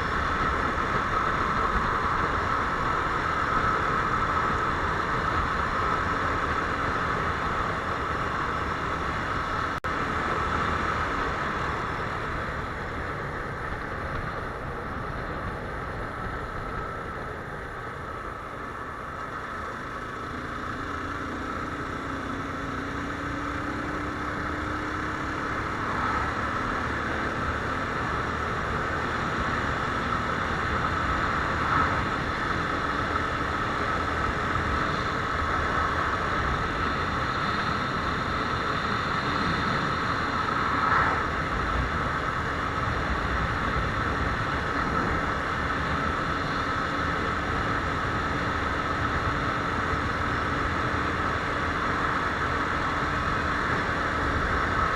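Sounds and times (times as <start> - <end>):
motorcycle engine running: 0.0 - 54.9
wind and road noise: 0.0 - 54.9.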